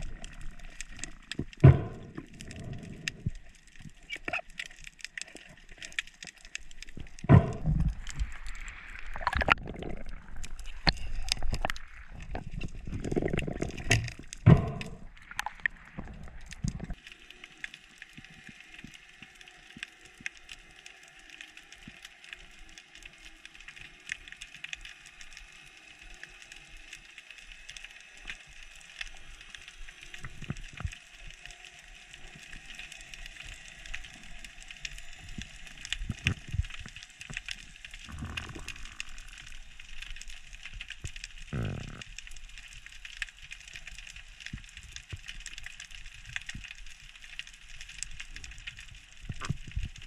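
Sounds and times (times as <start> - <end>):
underwater crackling clicks: 0.0 - 50.0.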